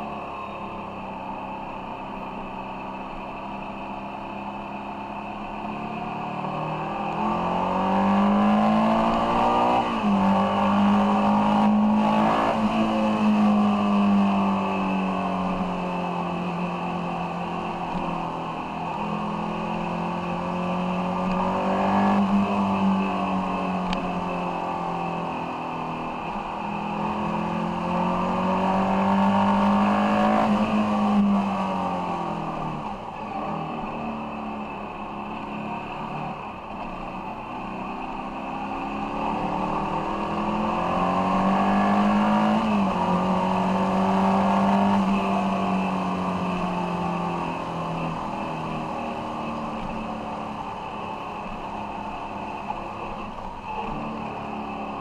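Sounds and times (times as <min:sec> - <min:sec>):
motorcycle engine revving: 0:03.3 - 0:55.0.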